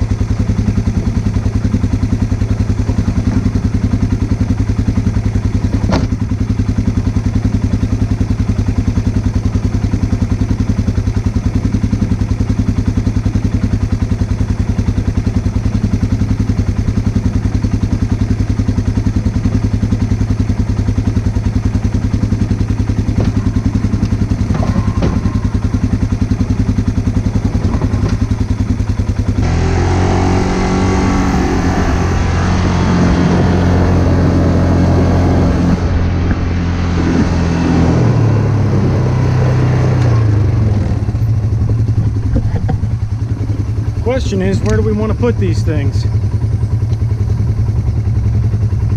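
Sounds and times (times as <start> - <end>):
engine running with fast pulse: 0.0 - 48.9.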